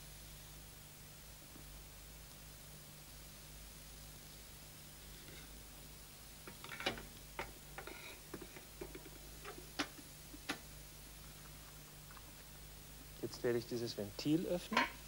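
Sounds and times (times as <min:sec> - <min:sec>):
faint steady low hum: 0:00.0 - 0:15.0.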